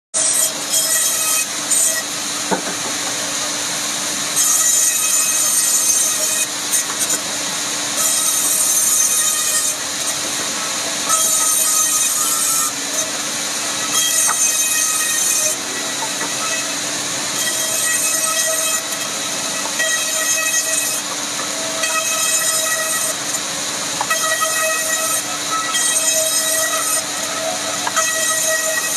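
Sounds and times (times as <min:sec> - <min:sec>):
saw cutting wood rasp: 0:04.3 - 0:23.4, 0:24.0 - 0:28.9.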